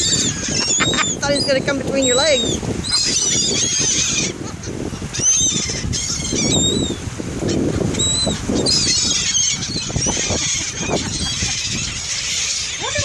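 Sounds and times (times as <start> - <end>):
seagulls calling: 0.0 - 13.0.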